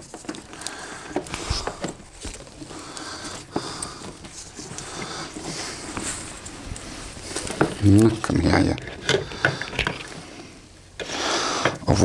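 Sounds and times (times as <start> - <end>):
cable rustling: 0.0 - 11.9.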